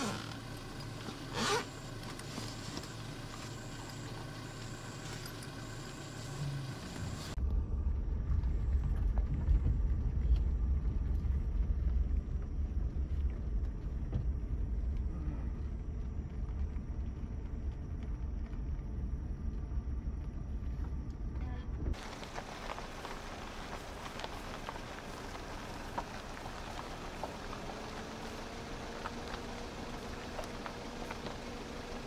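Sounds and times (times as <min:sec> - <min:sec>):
vehicle driving rumble: 0:00.0 - 0:32.0.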